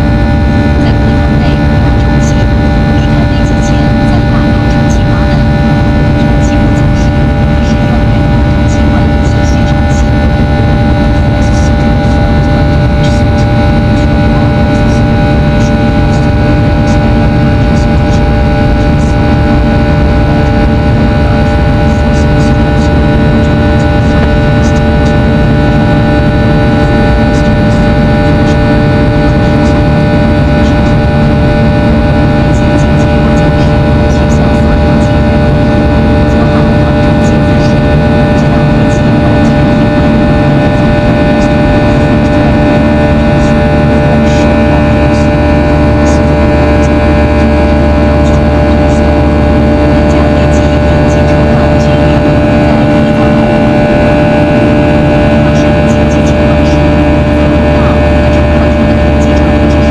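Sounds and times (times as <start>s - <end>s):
engine whining tones: 0.0s - 59.9s
jet engines rumbling in cabin: 0.0s - 59.9s.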